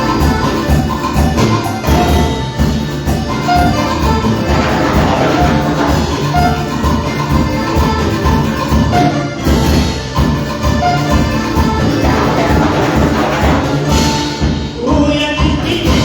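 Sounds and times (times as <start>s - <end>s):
worship band playing upbeat music: 0.0s - 16.0s.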